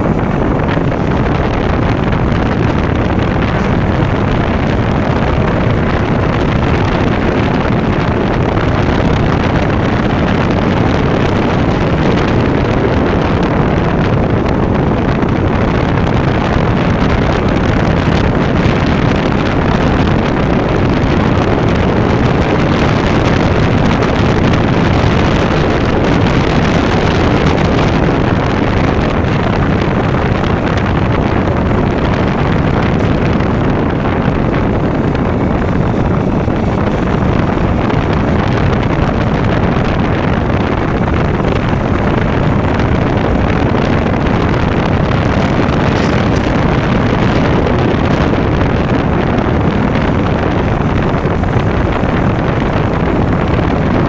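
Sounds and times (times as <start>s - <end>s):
motorcycle engine and exhaust: 0.0s - 54.0s
wind rushing over microphone: 0.0s - 54.0s.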